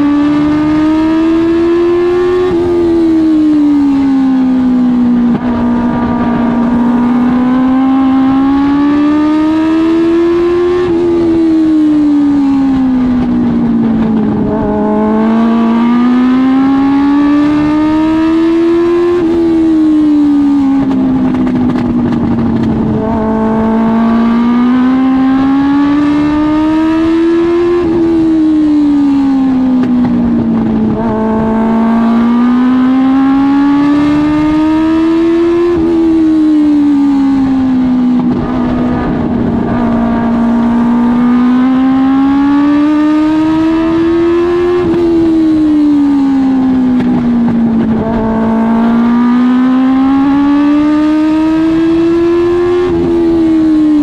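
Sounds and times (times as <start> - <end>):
racing motorcycle engine revving: 0.0 - 54.0.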